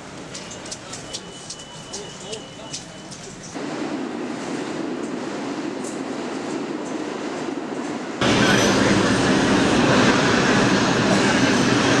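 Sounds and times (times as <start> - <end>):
station background noise: 0.0 - 12.0
subway train rumbling past: 0.0 - 12.0.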